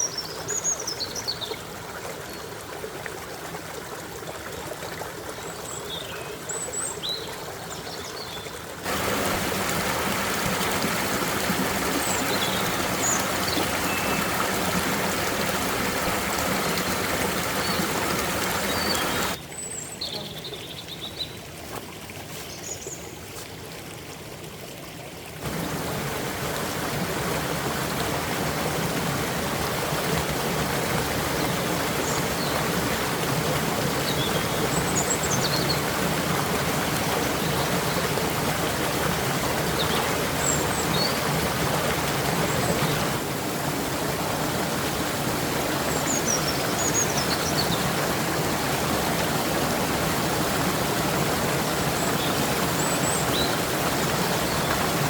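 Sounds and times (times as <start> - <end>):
stream water rushing: 0.0 - 19.8, 21.3 - 55.0.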